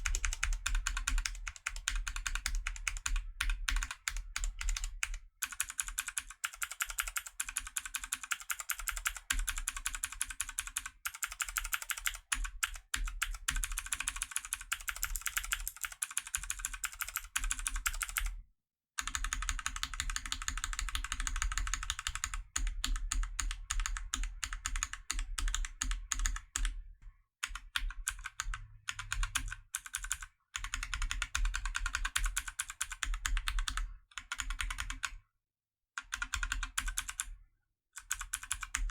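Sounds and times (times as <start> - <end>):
mechanical keyboard typing: 0.0 - 18.4, 19.0 - 26.7, 27.4 - 35.2, 36.0 - 37.3, 38.0 - 38.9.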